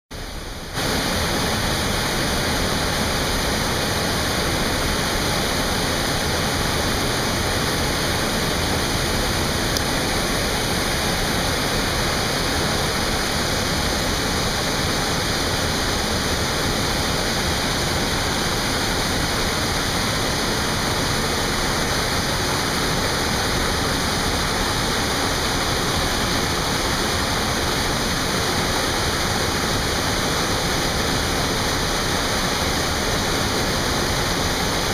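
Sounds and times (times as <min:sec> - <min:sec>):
river water pouring over dam: 0:00.2 - 0:34.9.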